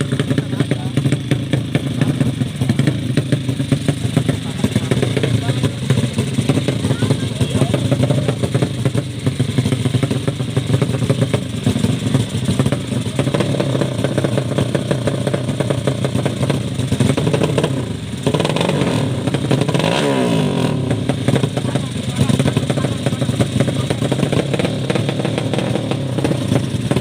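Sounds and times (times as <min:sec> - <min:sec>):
motorcycle engines revving: 0:00.0 - 0:27.0.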